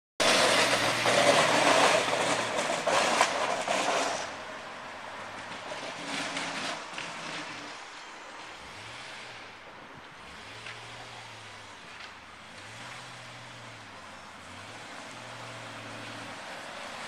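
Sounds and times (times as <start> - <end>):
plow blade pushing snow: 0.2 - 17.0
truck engine driving past: 0.2 - 17.0.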